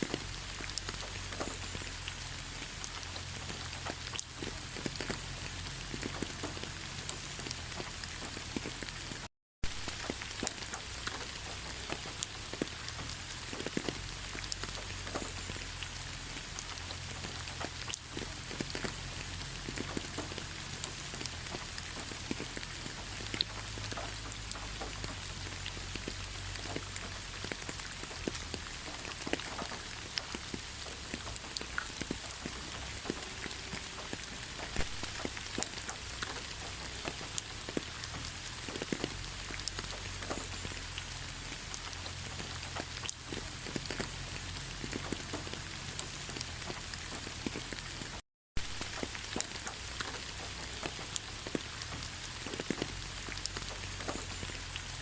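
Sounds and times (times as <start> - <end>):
raindrops ticking on a surface: 0.0 - 55.0
steady rain hiss: 0.0 - 55.0.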